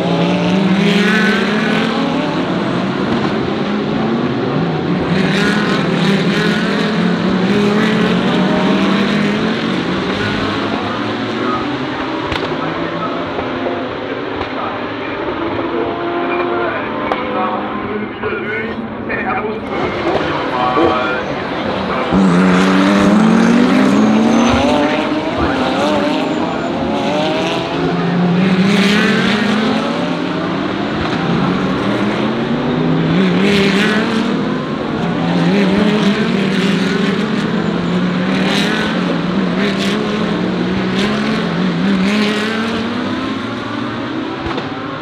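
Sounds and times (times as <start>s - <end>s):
race cars accelerating past: 0.0s - 45.0s.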